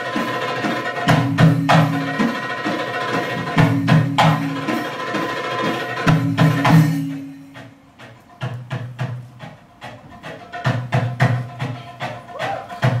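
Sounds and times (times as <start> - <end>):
hand drum rhythm: 0.0 - 13.0.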